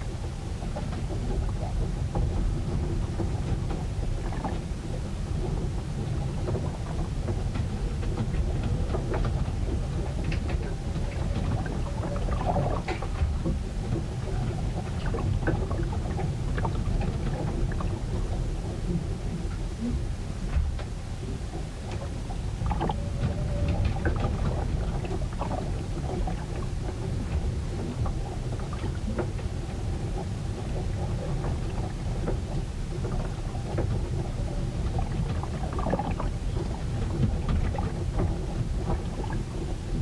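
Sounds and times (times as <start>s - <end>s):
low storm rumble: 0.0s - 40.0s
water splashes: 0.1s - 40.0s.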